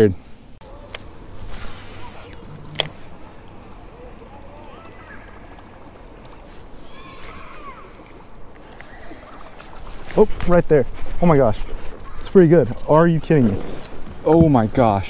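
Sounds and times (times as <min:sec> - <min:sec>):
faint outdoor ambience on water: 0:00.0 - 0:15.0.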